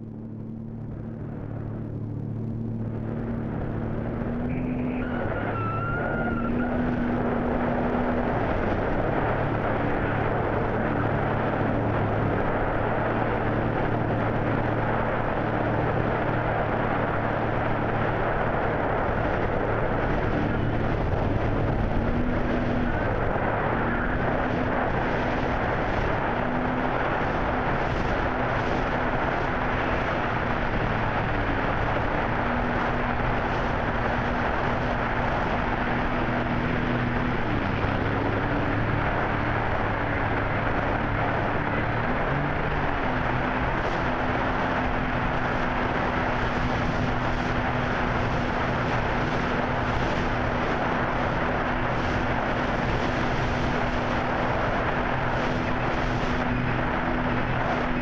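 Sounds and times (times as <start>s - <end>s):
motorboat engine running: 0.0s - 58.0s
wind: 0.0s - 58.0s
water rushing: 0.5s - 58.0s.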